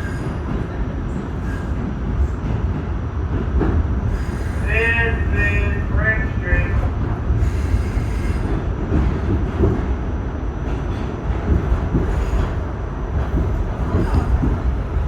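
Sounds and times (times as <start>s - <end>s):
subway car rumble: 0.0s - 15.0s.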